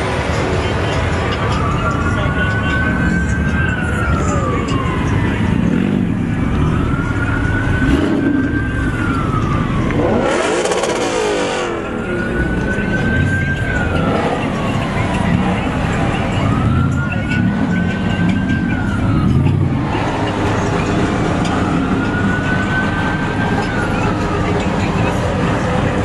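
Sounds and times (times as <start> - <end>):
car engines rumbling: 0.0 - 26.0
car revving or passing: 0.0 - 26.0
police siren wailing: 0.0 - 26.0.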